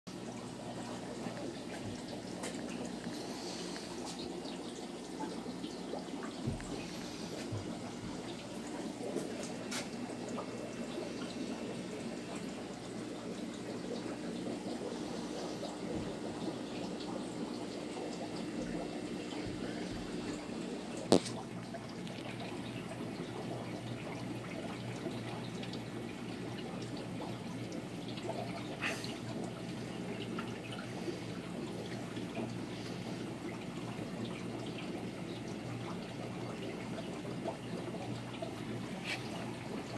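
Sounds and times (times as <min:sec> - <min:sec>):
aquarium water trickling: 0:00.1 - 0:39.9.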